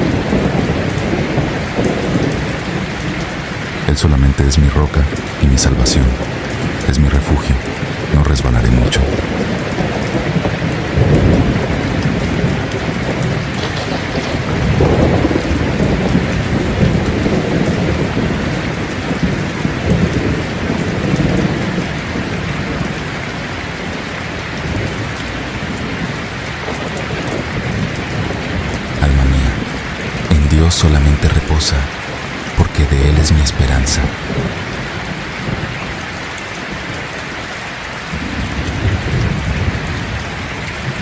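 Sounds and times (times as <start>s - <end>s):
low rolling thunder: 0.0s - 3.9s, 5.0s - 6.9s, 7.5s - 30.3s, 33.7s - 37.0s, 38.0s - 41.0s
heavy rain: 0.0s - 41.0s.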